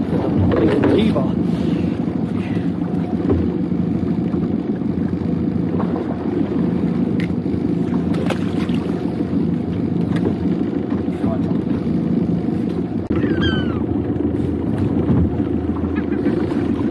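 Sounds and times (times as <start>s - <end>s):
outboard motor running: 0.0s - 16.9s.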